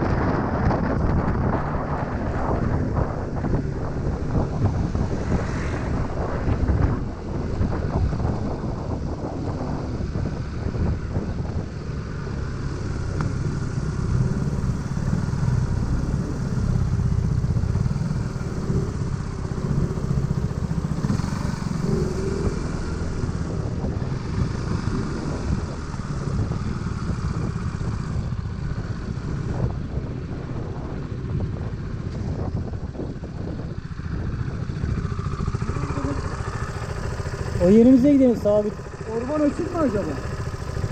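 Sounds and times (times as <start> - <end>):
road noise: 0.0 - 40.9
wind noise: 0.0 - 40.9
motor scooter engine running: 6.6 - 40.9.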